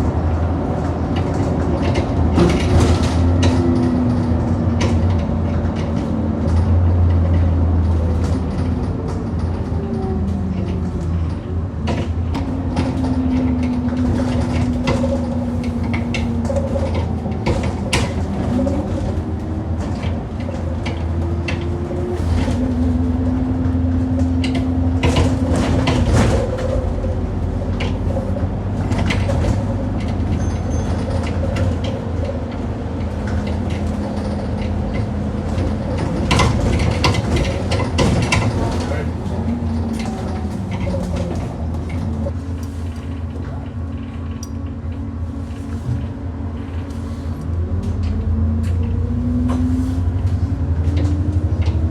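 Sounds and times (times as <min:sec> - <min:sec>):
bus engine hum: 0:00.0 - 0:51.9
knocking and rattling: 0:00.8 - 0:42.4.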